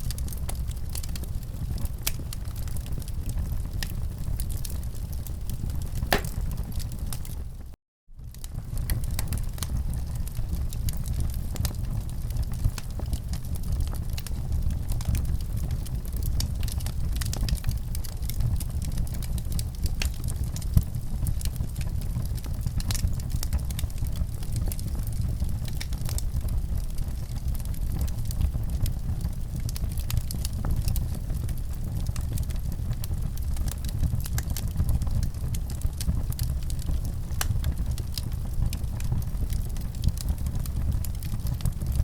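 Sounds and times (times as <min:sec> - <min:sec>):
fire crackling and popping: 0:00.0 - 0:42.0
low rumble of fire: 0:00.0 - 0:42.0.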